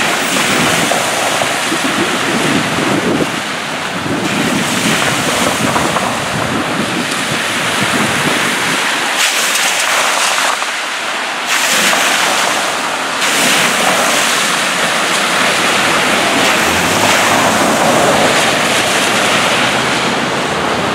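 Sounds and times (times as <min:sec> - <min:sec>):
cars passing on wet road: 0:00.0 - 0:20.9
water gushing and bubbling: 0:00.0 - 0:20.9.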